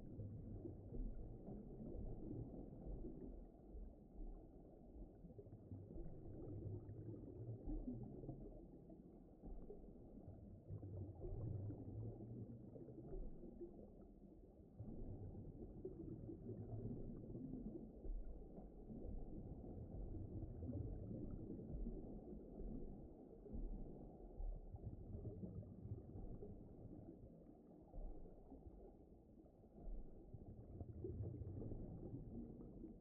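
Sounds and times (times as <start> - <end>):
muffled underwater ocean rumble: 0.0 - 33.0.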